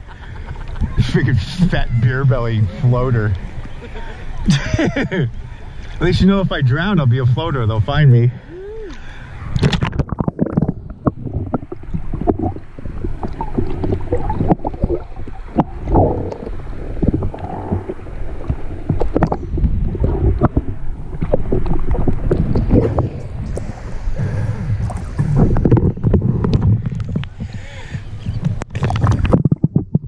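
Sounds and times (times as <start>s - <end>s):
muffled underwater water sloshing: 0.0s - 30.0s.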